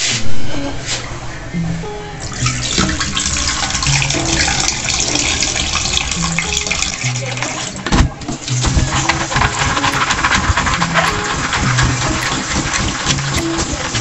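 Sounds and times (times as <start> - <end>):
background music: 0.8 - 14.0.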